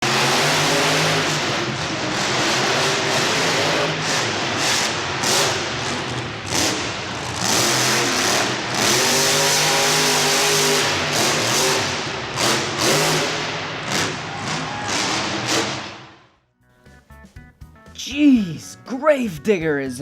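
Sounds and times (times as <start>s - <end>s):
large engine revving: 0.0s - 16.2s.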